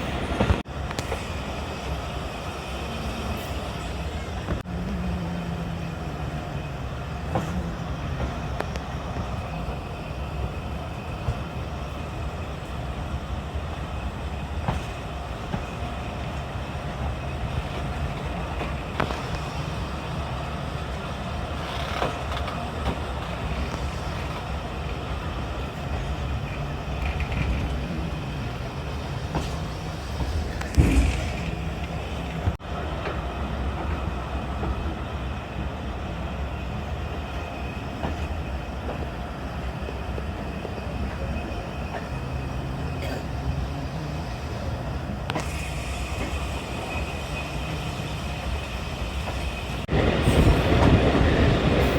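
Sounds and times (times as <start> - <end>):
train rumbling on rails: 0.0 - 51.9.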